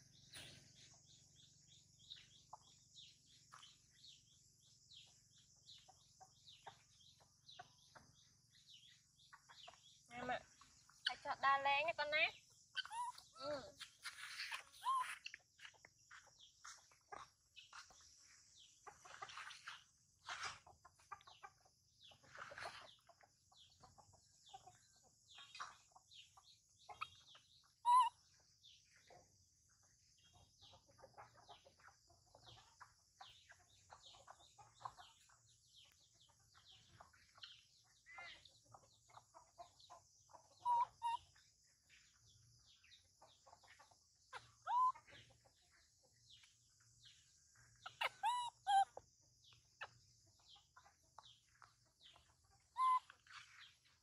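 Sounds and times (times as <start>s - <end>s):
chickens clucking: 0.0s - 54.0s
small birds chirping: 0.0s - 54.0s.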